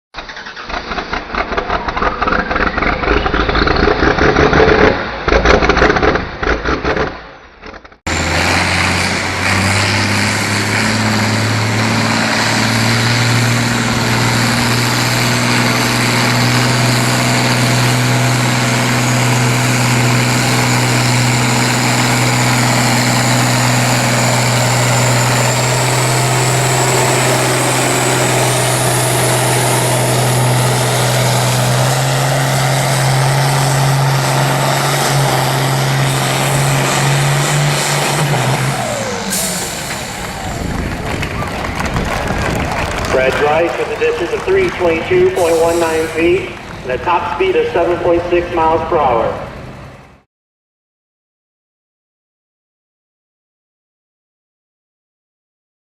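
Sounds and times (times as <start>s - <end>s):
tractor engine under load: 0.1s - 50.2s
rapidly pulsing engine: 0.2s - 50.2s.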